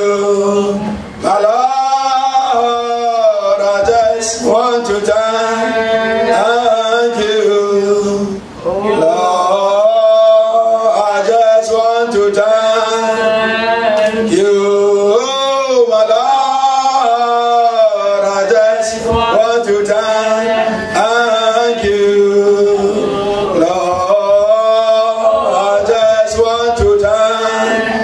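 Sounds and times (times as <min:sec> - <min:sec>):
man singing worship song: 0:00.0 - 0:28.0.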